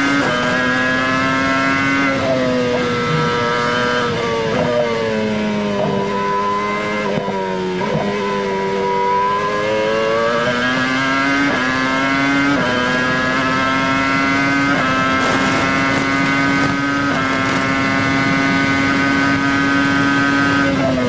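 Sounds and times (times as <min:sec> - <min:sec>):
racing car engine at full throttle: 0:00.0 - 0:21.0.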